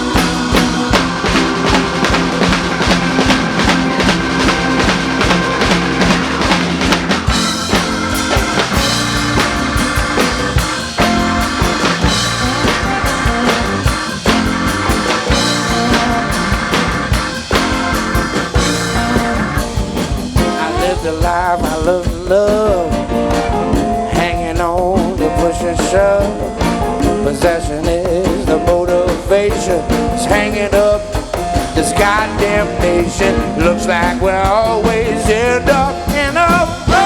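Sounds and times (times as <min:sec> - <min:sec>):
drum kit: 0:00.0 - 0:37.0
live rock band playing: 0:00.0 - 0:37.0.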